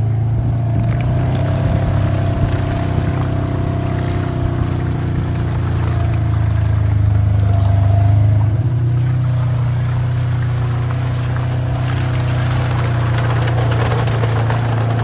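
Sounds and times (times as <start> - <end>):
utility vehicle engine droning: 0.0 - 15.0.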